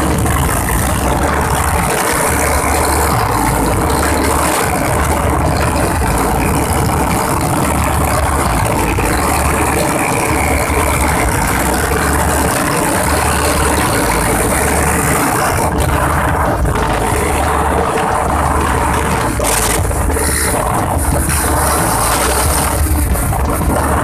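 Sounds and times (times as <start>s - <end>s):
motorcycle engine running: 0.0s - 24.0s
wind rushing over microphone: 0.0s - 24.0s.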